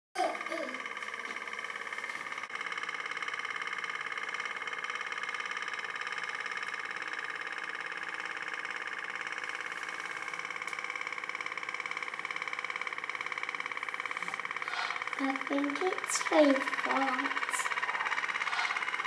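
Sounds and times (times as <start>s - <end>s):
toy boat putt-putt buzz: 0.2s - 19.0s.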